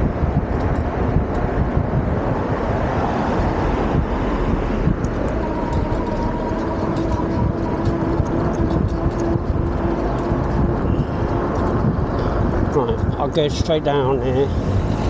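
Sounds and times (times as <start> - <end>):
steady motor whine: 0.0 - 12.8
road and tyre rumble: 0.0 - 15.0
wind buffeting microphone: 0.0 - 15.0.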